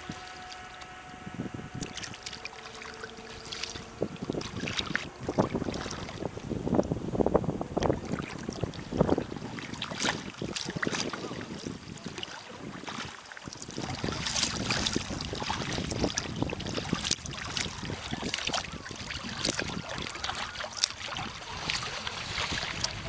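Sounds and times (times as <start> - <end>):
water splashing around kayak: 0.0 - 23.0
wind buffeting microphone: 0.0 - 23.0.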